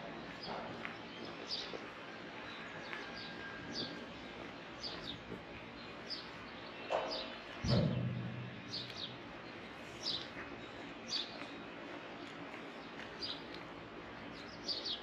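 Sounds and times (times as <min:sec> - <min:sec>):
steady outdoor hiss: 0:00.0 - 0:15.0
small birds chirping: 0:00.1 - 0:15.0.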